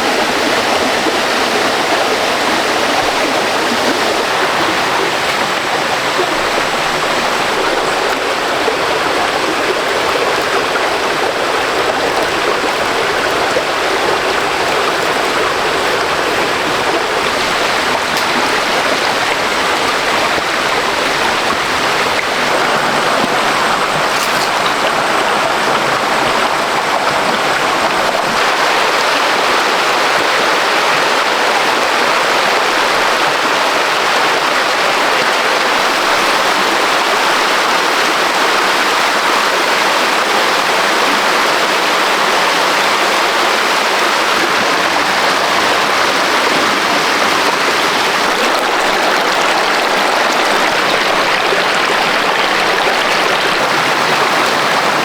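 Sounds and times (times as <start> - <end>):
stream rushing over rapids: 0.0 - 55.0.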